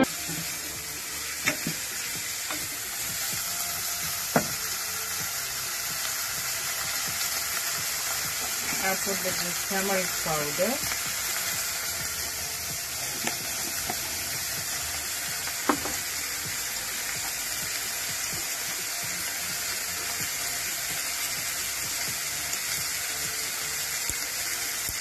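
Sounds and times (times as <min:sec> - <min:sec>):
food sizzling in a saucepan: 0:00.0 - 0:25.0.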